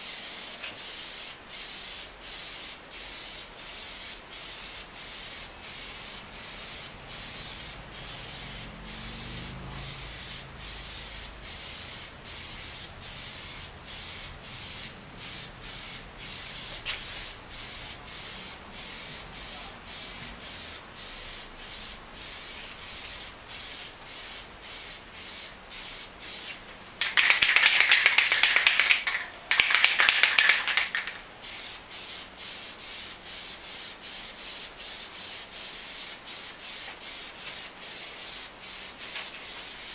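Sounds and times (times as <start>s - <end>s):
aerosol can spraying: 0.0s - 39.9s
faint pulsing hiss: 0.0s - 39.9s.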